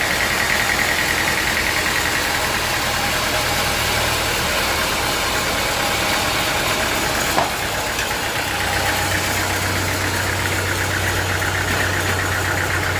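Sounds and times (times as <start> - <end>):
sawmill engine running: 0.0 - 12.9.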